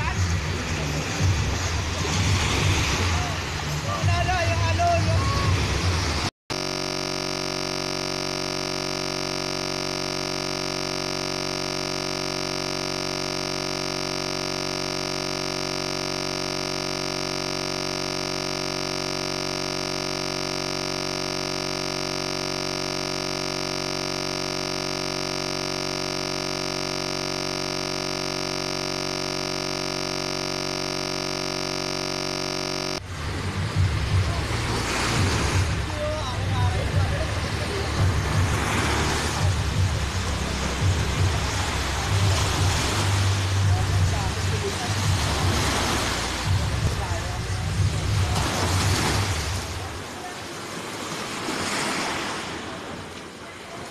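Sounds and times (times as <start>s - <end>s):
synthesizer drone: 4.8s - 50.2s.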